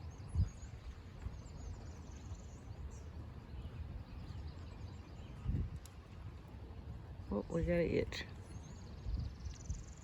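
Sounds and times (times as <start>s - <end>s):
small birds chirping: 0.0s - 10.0s
wind rumble on microphone: 0.0s - 10.0s.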